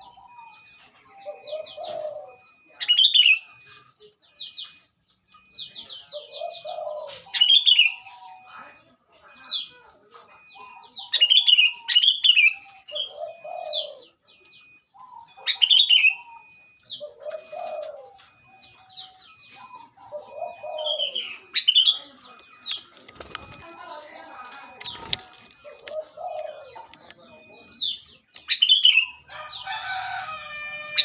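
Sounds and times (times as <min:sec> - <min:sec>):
bulbul chirping phrases: 0:00.0 - 0:29.3
short even beeps: 0:00.0 - 0:29.3.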